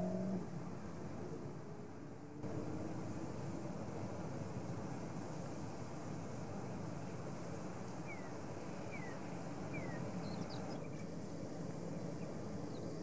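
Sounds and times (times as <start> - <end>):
low rumble of wind: 0.0 - 13.0.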